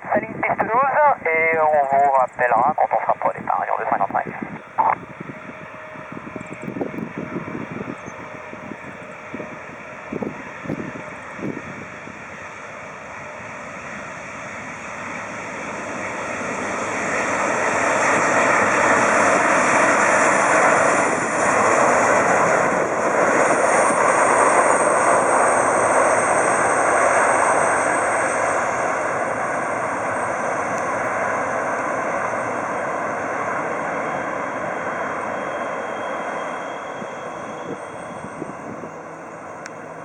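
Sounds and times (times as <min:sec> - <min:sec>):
jet airliner flying past: 0:00.0 - 0:40.0.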